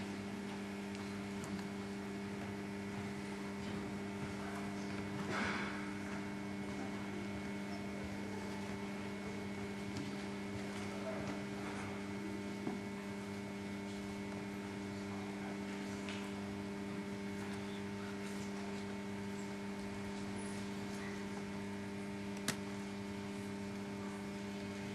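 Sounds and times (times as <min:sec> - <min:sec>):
electrical mains hum: 0:00.0 - 0:24.9
faint hall noise: 0:00.0 - 0:24.9.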